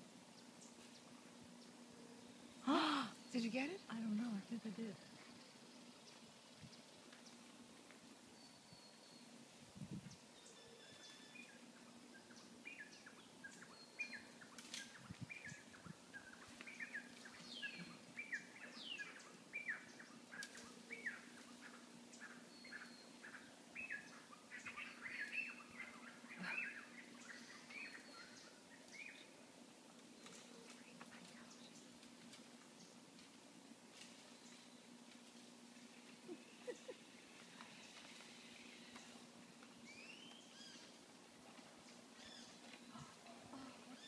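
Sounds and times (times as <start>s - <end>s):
faint steady hum: 0.0s - 44.0s
birds chirping: 0.3s - 33.1s, 34.1s - 44.0s.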